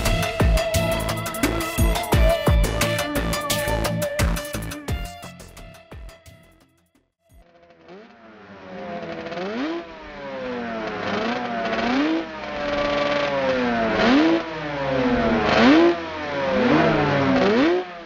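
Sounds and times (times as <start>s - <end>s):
motorcycle engine revving: 0.0s - 5.0s, 7.4s - 18.0s.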